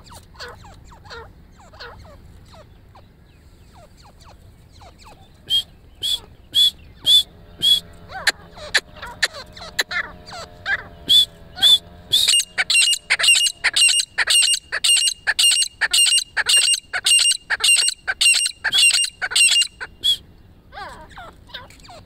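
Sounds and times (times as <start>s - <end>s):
francolins calling: 0.0s - 22.0s.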